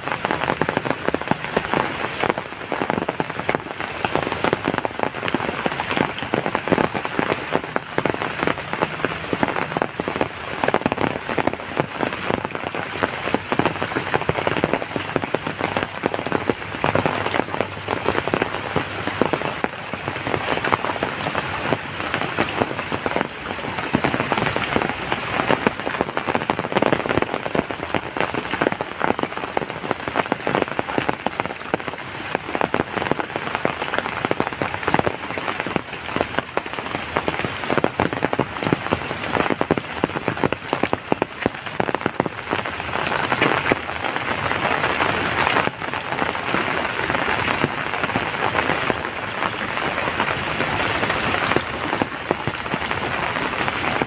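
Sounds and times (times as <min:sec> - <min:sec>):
heavy rain pelting: 0:00.0 - 0:54.0.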